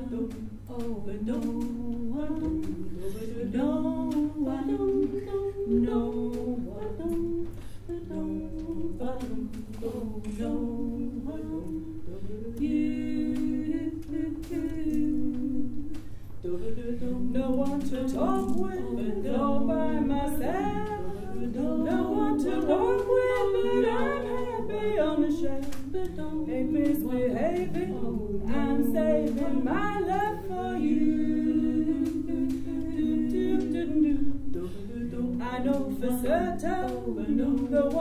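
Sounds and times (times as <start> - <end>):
women singing in harmony: 0.0 - 38.0.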